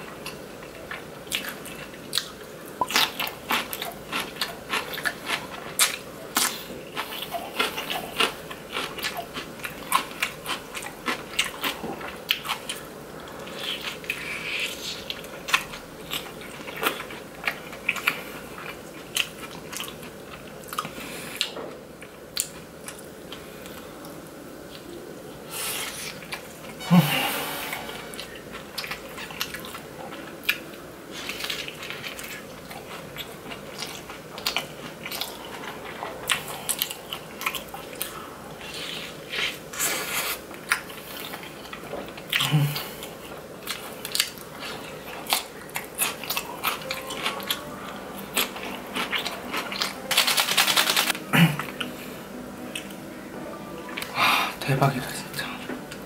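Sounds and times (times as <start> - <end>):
chewing crispy pizza crust: 0.0 - 25.0, 28.5 - 52.0.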